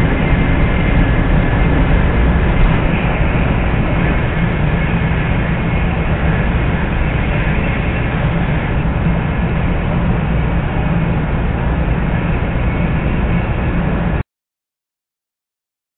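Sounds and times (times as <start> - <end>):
train running at speed from inside: 0.0 - 14.2.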